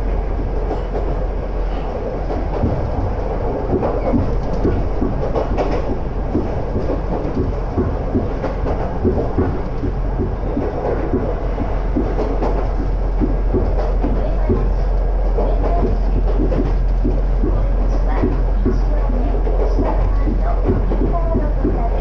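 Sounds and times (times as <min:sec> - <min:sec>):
track and carriage clacks: 0:00.0 - 0:22.0
train wheels rumbling on rail: 0:00.0 - 0:22.0.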